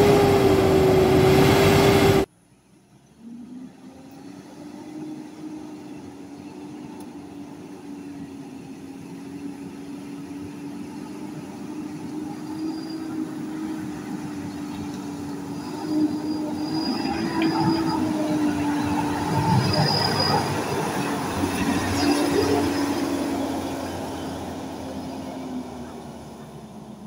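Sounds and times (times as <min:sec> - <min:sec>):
pickup truck mechanical whine: 0:00.0 - 0:27.0.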